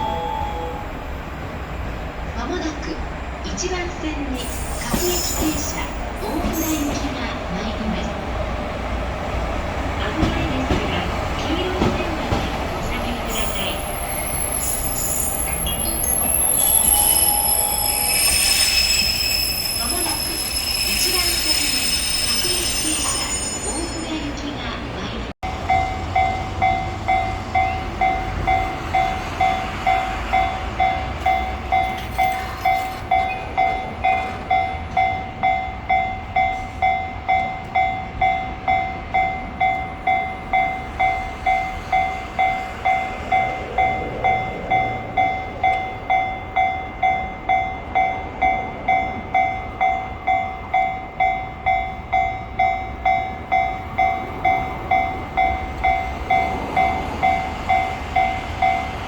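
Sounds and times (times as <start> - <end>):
level crossing warning bell: 0.0 - 1.7, 4.3 - 8.0, 10.2 - 59.0
train rumbling: 0.0 - 59.0.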